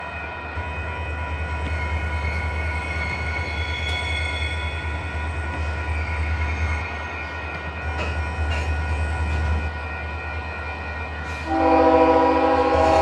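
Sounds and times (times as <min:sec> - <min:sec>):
freight train rumbling by: 0:00.0 - 0:13.0
wheels squealing on rails: 0:00.0 - 0:13.0.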